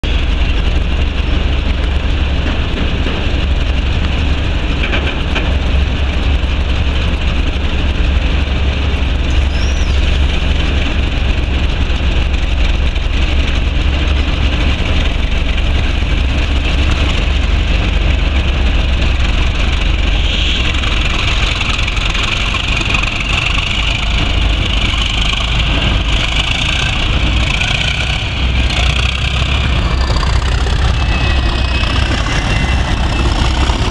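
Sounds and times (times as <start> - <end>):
diesel locomotives pulling away: 0.0 - 33.9.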